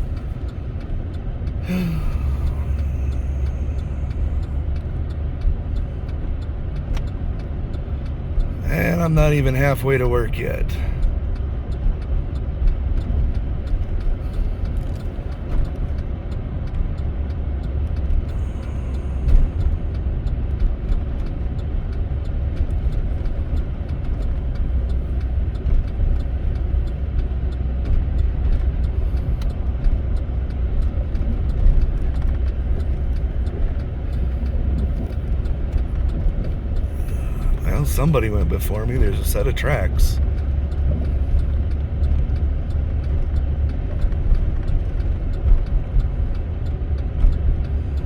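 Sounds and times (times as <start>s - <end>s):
truck engine and tyre rumble: 0.0s - 48.0s.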